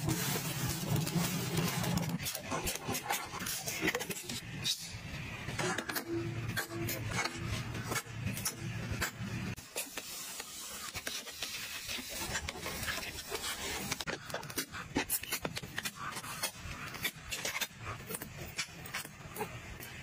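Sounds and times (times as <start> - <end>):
rubbing scraping sound: 0.0 - 4.7, 6.8 - 19.7.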